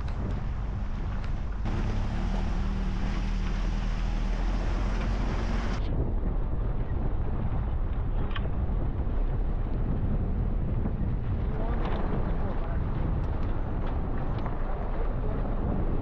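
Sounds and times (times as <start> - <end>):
vehicle rumbling on dirt road: 0.0 - 16.0
wind buffeting microphone: 0.0 - 16.0.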